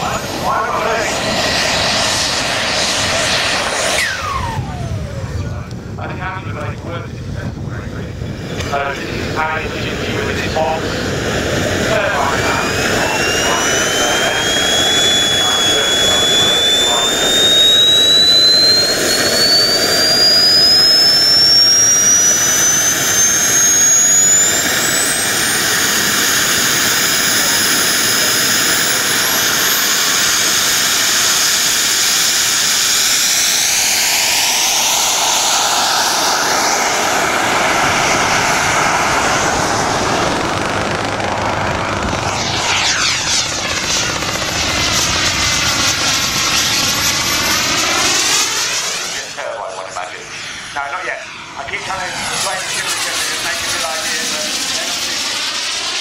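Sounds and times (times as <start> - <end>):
model jet turbine whine: 0.0 - 56.0.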